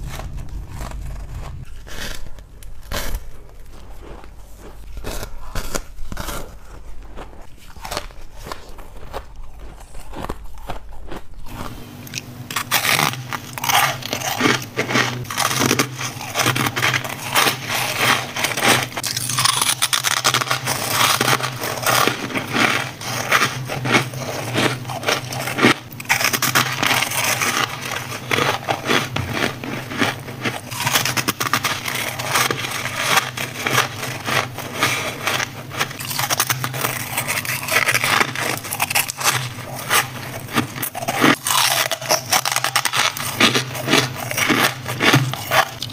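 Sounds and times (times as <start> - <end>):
frost being scraped and crunched: 0.0 - 10.8, 11.5 - 45.9
steady low hum: 0.0 - 45.9.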